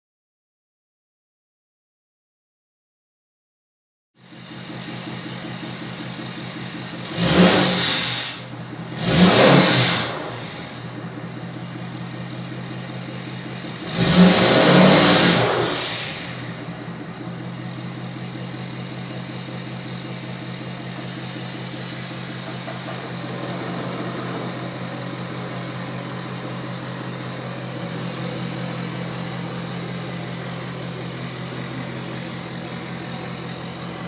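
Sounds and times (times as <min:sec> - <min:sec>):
diesel engine idling and revving: 0:04.2 - 0:34.0.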